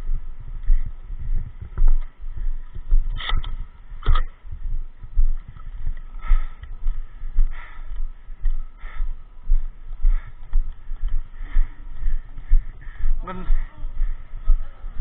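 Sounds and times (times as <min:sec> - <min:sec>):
rhythmic footsteps: 0:00.0 - 0:15.0.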